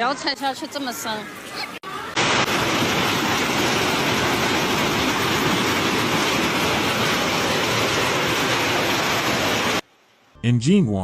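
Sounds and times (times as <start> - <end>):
storm water rushing: 0.2 - 9.9.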